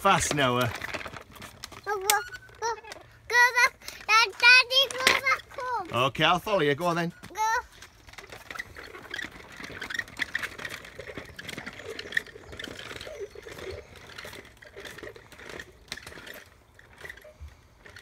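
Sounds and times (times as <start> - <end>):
tricycle rattling over stones: 0.0 - 18.0.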